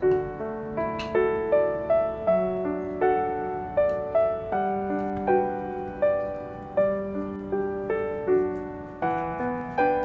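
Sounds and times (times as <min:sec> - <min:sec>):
gentle piano notes: 0:00.0 - 0:10.0.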